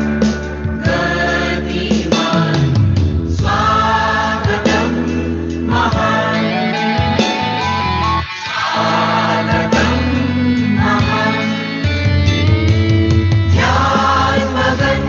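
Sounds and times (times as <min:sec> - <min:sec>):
mixed choir singing an anthem: 0:00.0 - 0:12.6, 0:13.4 - 0:15.0
instrumental accompaniment: 0:00.0 - 0:15.0.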